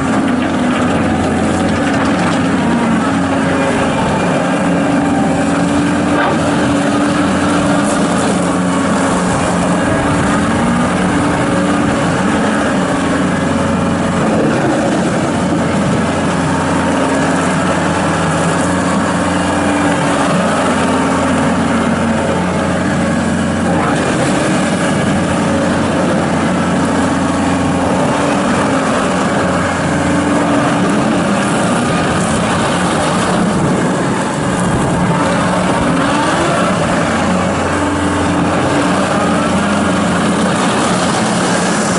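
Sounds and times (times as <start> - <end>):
skid steer diesel engine running: 0.0 - 41.9.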